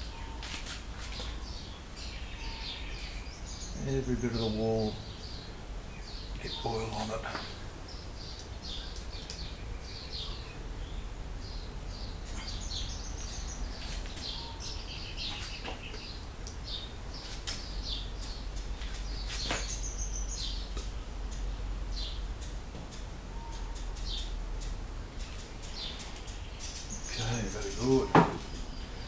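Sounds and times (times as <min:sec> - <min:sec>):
birds chirping: 0:00.0 - 0:29.0
steady low hum: 0:00.0 - 0:29.0.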